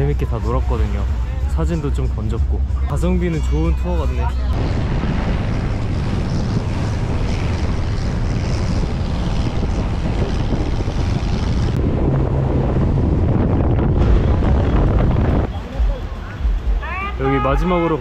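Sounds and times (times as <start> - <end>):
speedboat engines running: 0.0 - 18.0
wind buffeting microphone: 0.0 - 18.0.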